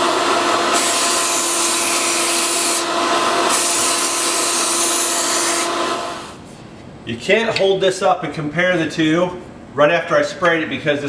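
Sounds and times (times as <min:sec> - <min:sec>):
air supply whine: 0:00.0 - 0:11.0.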